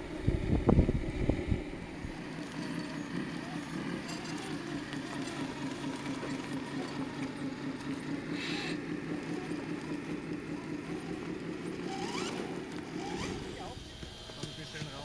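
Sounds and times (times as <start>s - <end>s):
toy truck motor whine: 0.1s - 15.0s.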